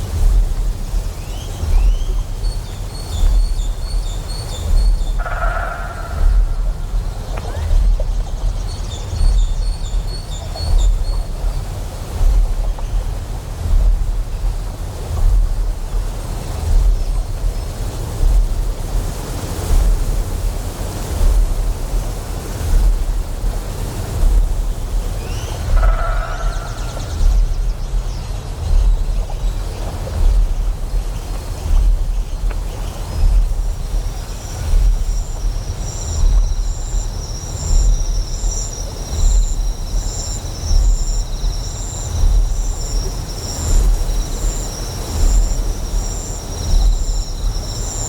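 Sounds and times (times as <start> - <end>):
flowing water hiss: 0.0 - 48.0
insects trilling: 0.0 - 48.0
pulsing generator hum: 0.0 - 48.0.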